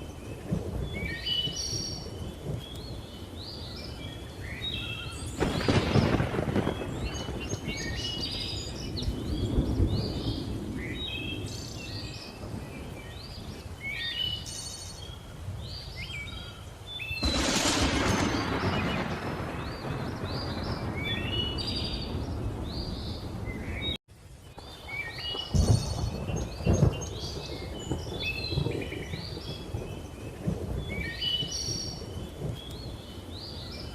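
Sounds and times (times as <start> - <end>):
low thunder rumbling: 0.0 - 4.0, 4.8 - 14.4, 17.2 - 33.9.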